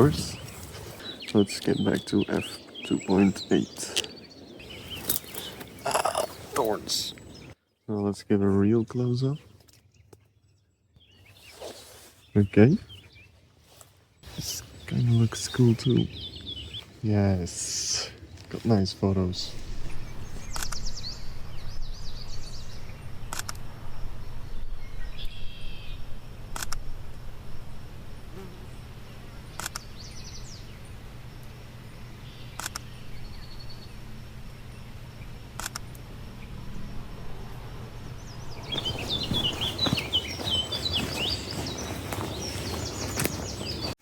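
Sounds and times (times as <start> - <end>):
songbirds singing and calling: 0.0 - 26.9, 28.4 - 44.0.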